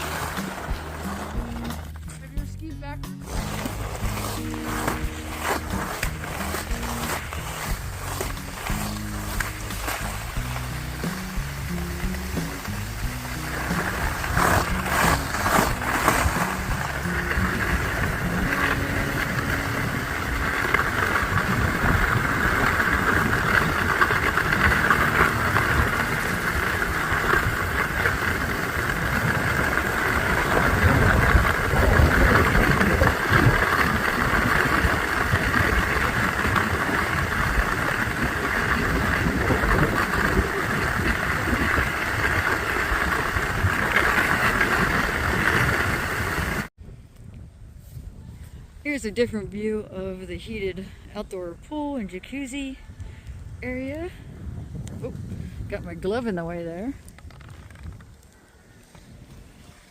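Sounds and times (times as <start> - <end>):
skis scraping over snow: 0.0 - 46.7, 53.6 - 59.9
wind rumbling on microphone: 0.0 - 59.9.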